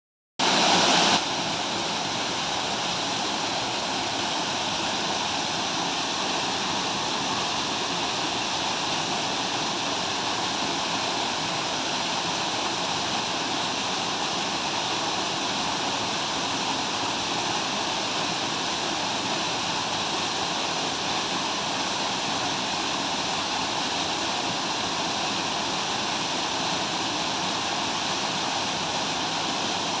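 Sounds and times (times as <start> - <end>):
small waterfall splashing: 0.4 - 30.0.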